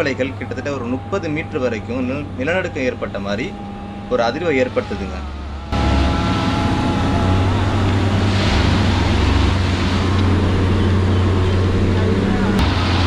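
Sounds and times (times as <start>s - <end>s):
track tamping machine droning: 0.0s - 13.0s.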